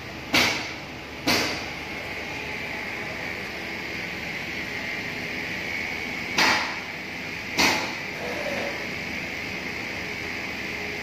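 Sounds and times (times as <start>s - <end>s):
machine fans whirring: 0.0s - 11.0s.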